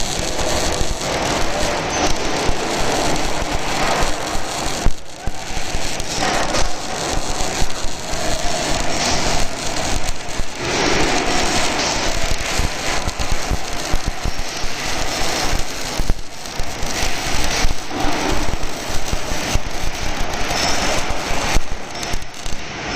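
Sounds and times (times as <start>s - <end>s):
welding arc crackling: 0.0s - 22.9s.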